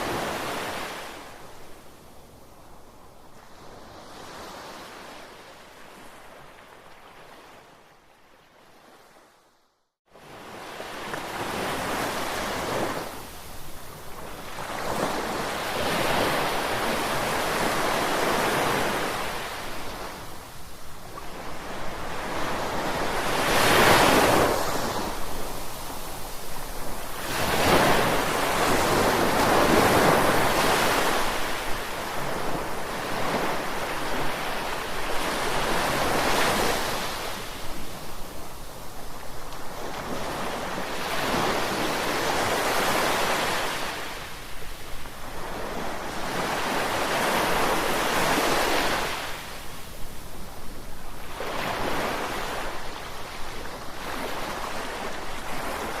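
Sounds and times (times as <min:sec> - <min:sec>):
sea waves breaking on shore: 0:00.0 - 0:09.4, 0:10.1 - 0:56.0.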